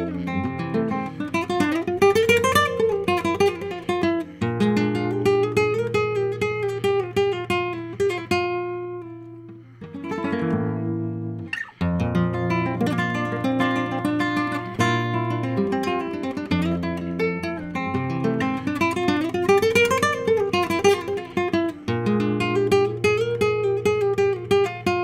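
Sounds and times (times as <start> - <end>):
fingerstyle guitar playing: 0.0 - 25.0.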